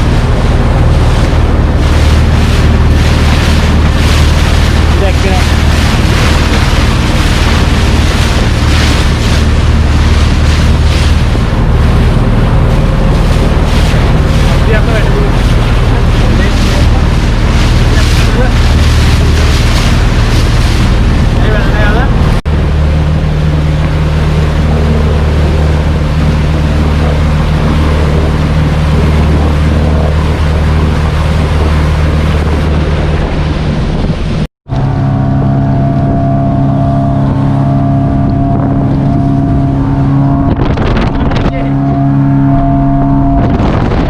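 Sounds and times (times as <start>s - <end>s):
motorboat engine running: 0.0s - 44.0s
wind on microphone: 0.0s - 44.0s.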